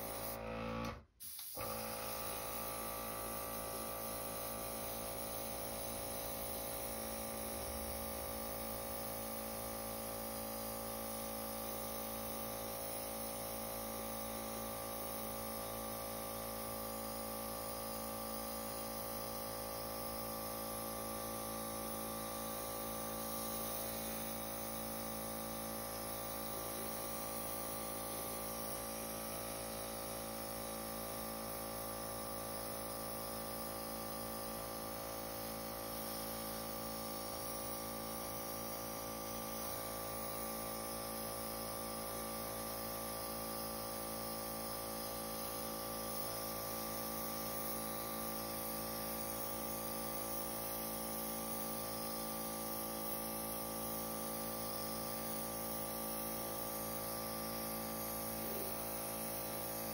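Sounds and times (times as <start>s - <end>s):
air compressor humming and hissing: 0.0s - 59.9s.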